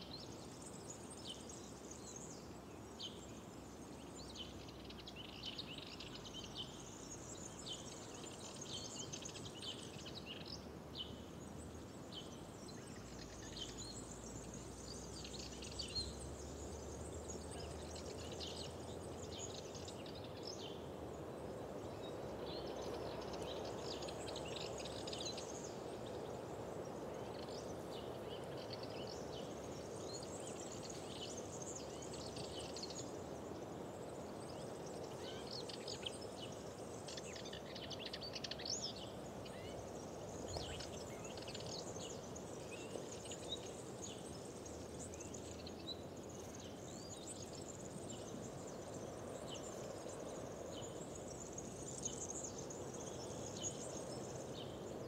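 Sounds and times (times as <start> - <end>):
low rushing background noise: 0.0 - 55.0
songbirds chirping: 0.0 - 55.0.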